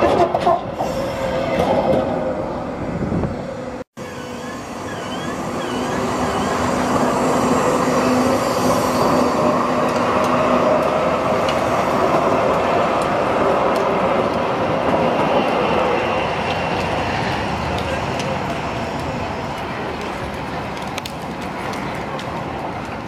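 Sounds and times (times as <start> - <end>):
tram wheels and motors rumbling: 0.0 - 23.0.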